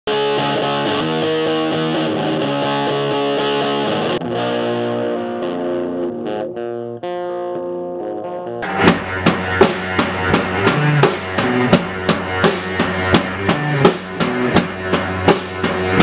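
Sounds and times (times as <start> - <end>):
distorted electric guitar: 0.1 - 16.0.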